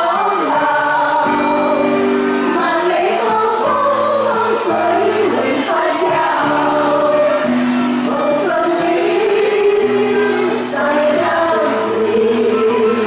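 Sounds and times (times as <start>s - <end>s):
keyboard accompaniment notes: 0.0s - 13.0s
vocal group singing in harmony: 0.0s - 13.0s.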